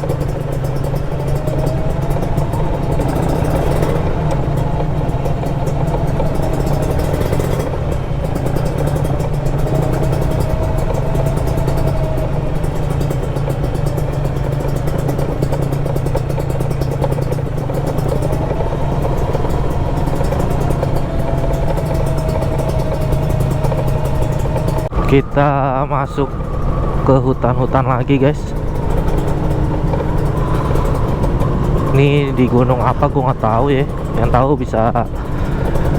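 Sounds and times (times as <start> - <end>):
two-stroke motorcycle engine running: 0.0 - 35.9.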